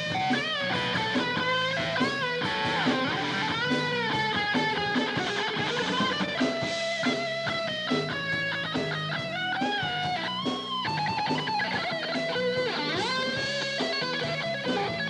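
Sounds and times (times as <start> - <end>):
electric guitar bending notes: 0.0 - 15.0
rock band playing: 0.0 - 15.0.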